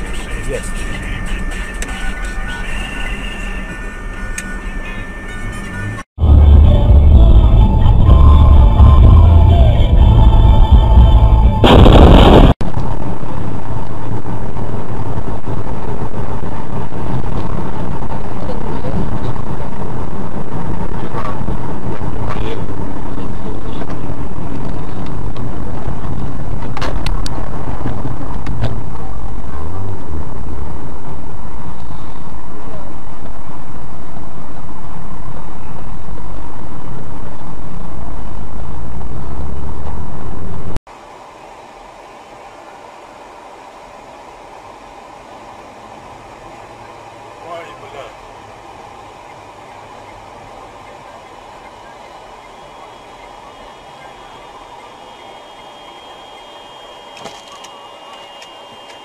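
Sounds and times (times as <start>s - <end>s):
loud harsh noise: 0.0s - 32.4s, 40.9s - 59.0s
vehicle road noise: 0.0s - 59.0s.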